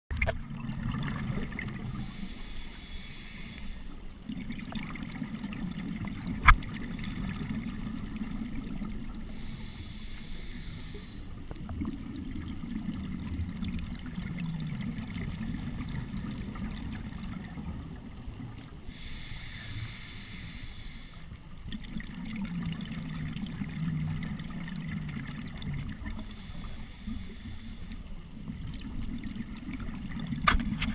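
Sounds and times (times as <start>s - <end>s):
regulator breaths hissing and bubbling: 0.6s - 30.9s.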